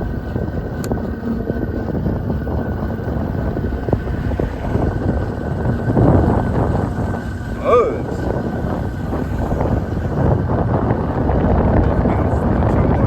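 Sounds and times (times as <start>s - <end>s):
electric motorbike rolling: 0.0s - 13.0s
thin steady whine: 0.0s - 13.0s
wind rushing over microphone: 0.0s - 13.0s.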